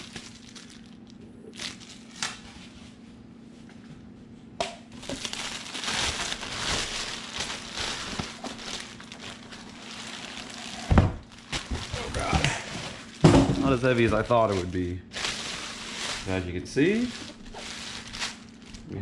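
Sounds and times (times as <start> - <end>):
plastic bag crinkling: 0.0 - 2.6, 4.9 - 19.0.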